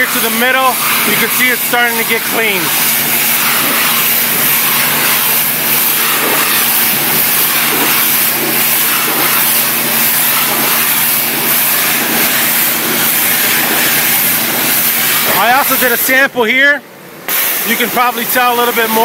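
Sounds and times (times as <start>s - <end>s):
pressure washer jet hissing: 0.0s - 16.3s, 17.3s - 19.0s
engine and pump humming: 0.0s - 19.0s.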